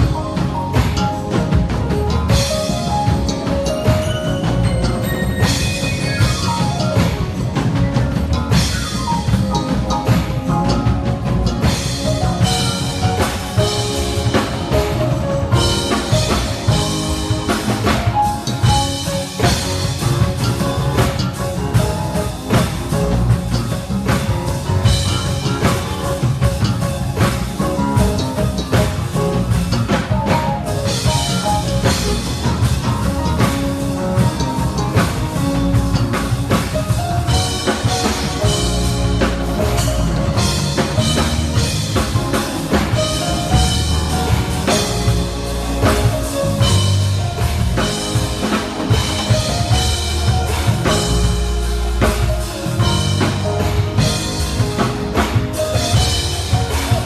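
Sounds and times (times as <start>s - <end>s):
bass guitar: 0.0s - 57.0s
drum kit: 0.0s - 57.0s
keyboard chords: 0.0s - 57.0s.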